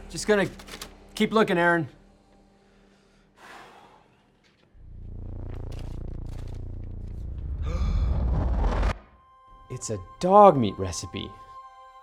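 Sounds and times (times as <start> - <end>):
dramatic suspense music: 0.0 - 12.0.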